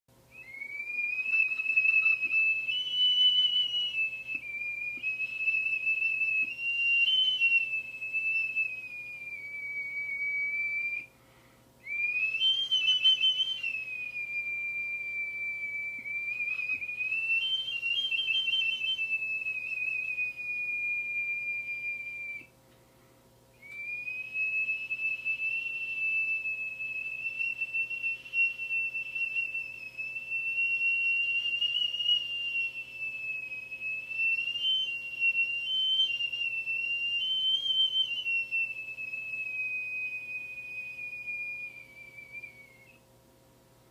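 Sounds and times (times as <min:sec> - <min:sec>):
stone whistle notes: 0:00.2 - 0:11.1, 0:11.8 - 0:22.5, 0:23.6 - 0:43.0.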